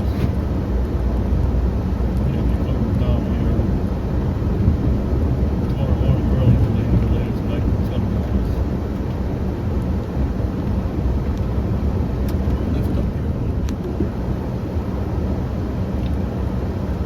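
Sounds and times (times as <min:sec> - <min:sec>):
vehicle engine low drone: 0:00.0 - 0:17.0.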